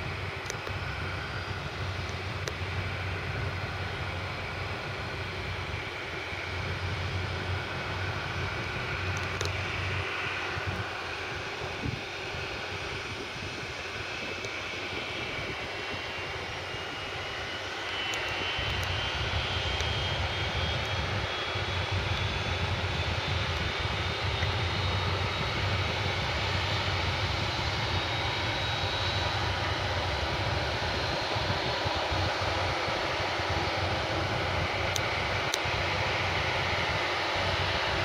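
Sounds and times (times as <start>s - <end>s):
jet engine whine spooling up: 0.0s - 38.0s.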